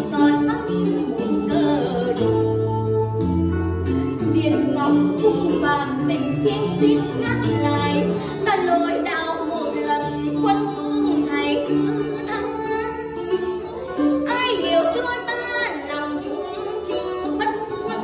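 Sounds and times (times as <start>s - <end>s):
plucked string accompaniment: 0.0s - 18.0s
woman singing: 0.0s - 18.0s.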